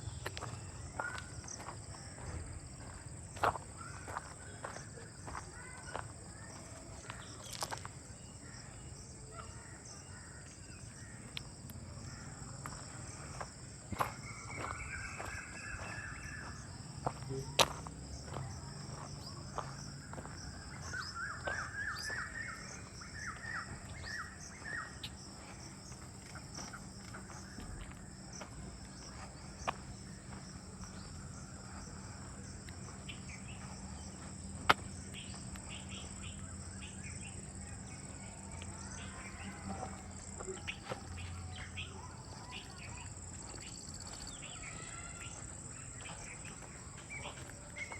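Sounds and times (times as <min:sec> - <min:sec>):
birds calling: 0:00.0 - 0:47.9
high insect drone: 0:00.0 - 0:47.9.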